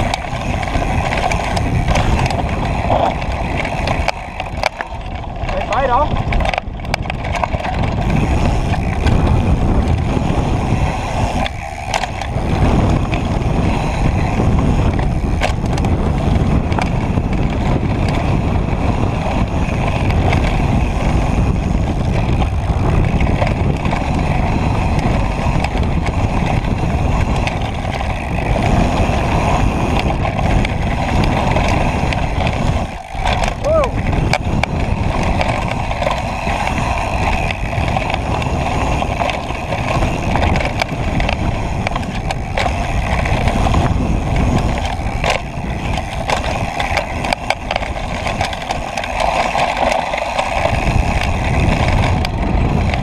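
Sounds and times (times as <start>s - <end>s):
bike knocks and rattles: 0.0s - 53.0s
tyres crunching over gravel: 0.0s - 53.0s
wind on microphone: 0.0s - 53.0s.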